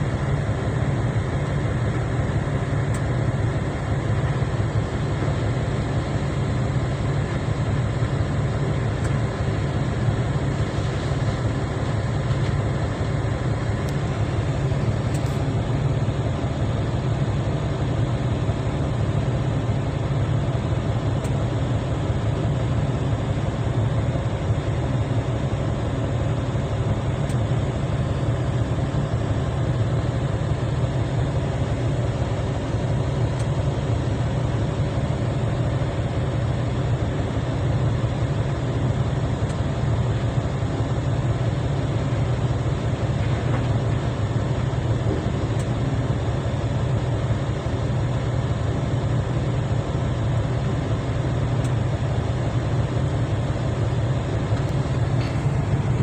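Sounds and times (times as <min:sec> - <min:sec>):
heavy machinery engine droning: 0:00.0 - 0:56.0.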